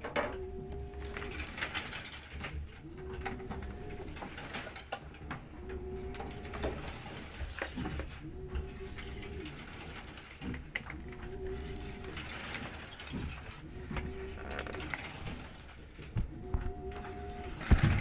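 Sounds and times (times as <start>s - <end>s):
washing machine motor agitating: 0.3s - 18.0s.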